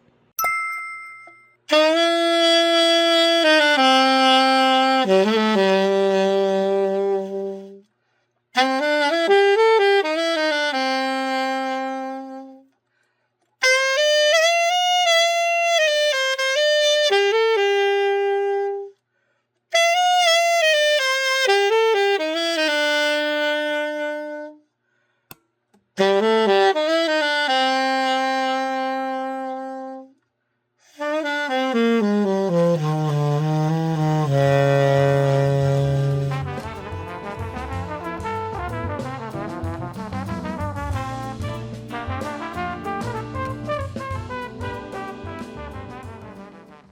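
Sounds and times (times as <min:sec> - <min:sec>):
solo alto saxophone: 0:01.7 - 0:12.9, 0:13.6 - 0:19.0, 0:19.7 - 0:24.8, 0:25.9 - 0:46.9.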